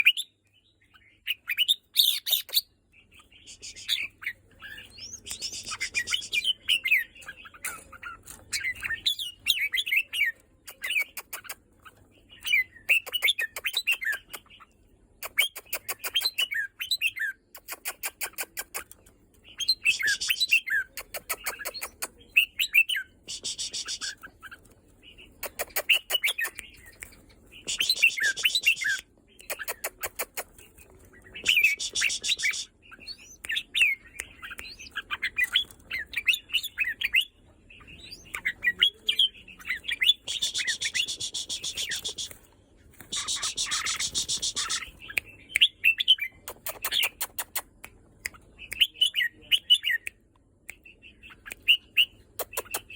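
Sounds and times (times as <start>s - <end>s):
bird singing warbled phrases: 0.0s - 52.9s.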